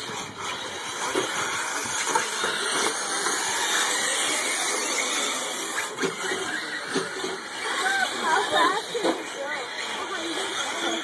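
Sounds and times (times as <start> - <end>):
radio-control trucks racing on dirt: 0.0 - 11.0.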